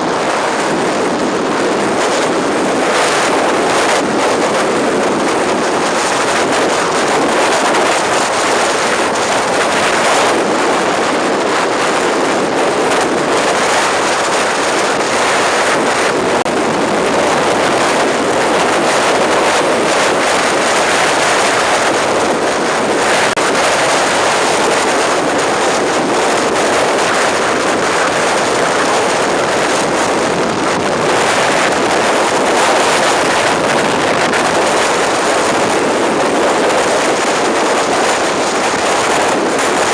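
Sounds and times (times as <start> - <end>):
storm-force wind rushing: 0.0 - 39.9.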